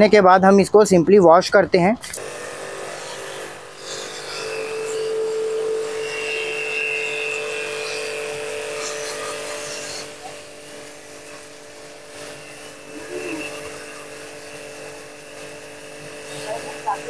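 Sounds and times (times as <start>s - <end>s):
pressure washer motor humming: 2.0s - 17.0s
water jet hissing: 2.1s - 17.0s.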